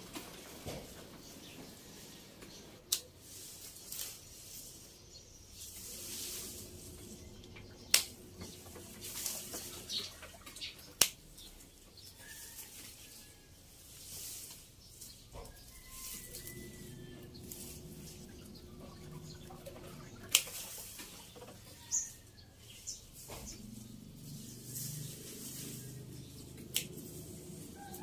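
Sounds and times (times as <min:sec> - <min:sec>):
leaves and branches rustling: 0:00.0 - 0:28.0.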